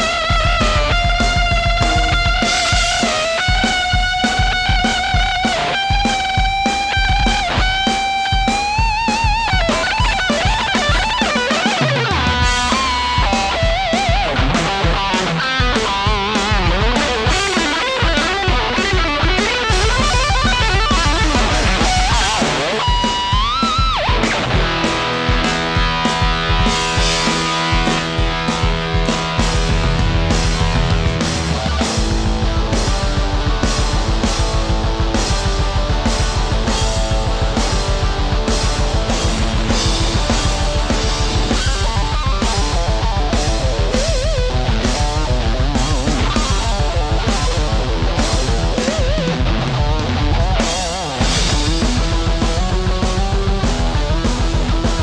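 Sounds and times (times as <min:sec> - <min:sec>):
distorted electric guitar lead: 0:00.0 - 0:55.0
steady drum beat: 0:00.0 - 0:55.0.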